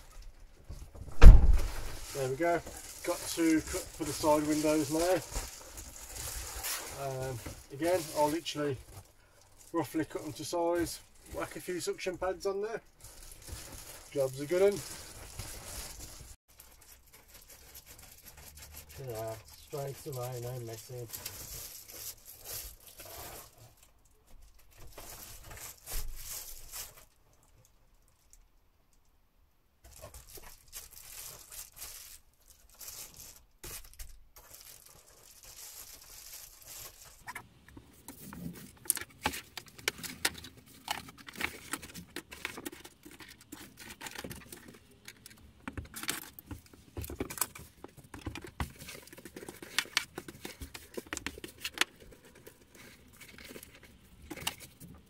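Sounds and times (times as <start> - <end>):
foil insulation crinkling: 0.0 - 28.4, 29.8 - 55.0.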